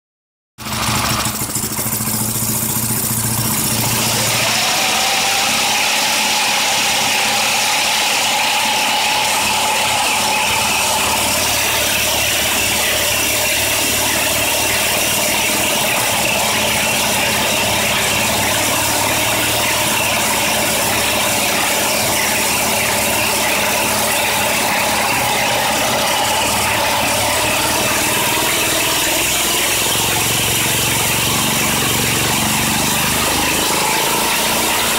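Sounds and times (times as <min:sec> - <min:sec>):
motor spinning wheel at high speed: 0:00.6 - 0:34.9.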